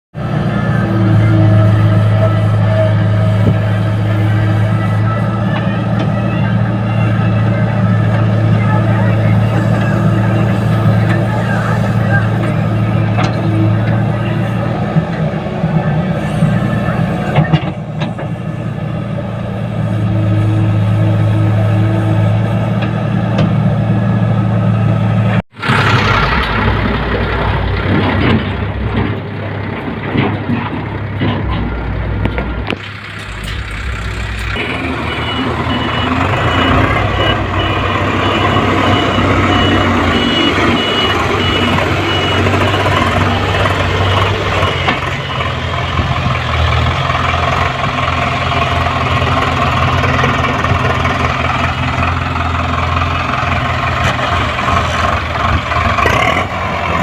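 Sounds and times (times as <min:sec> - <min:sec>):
tractor engine running: 0:00.1 - 0:57.0.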